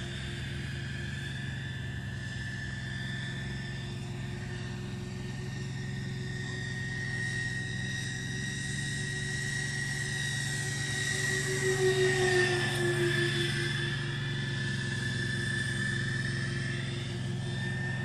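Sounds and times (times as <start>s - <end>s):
model aircraft whine: 0.0s - 18.0s.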